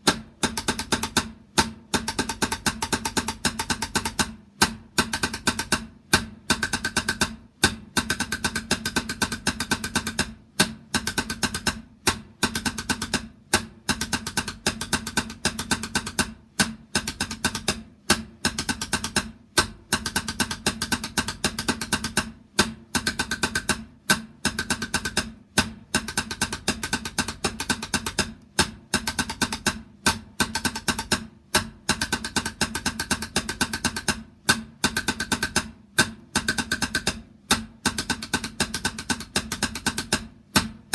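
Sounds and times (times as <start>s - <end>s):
rapid drum strokes: 0.0s - 40.9s.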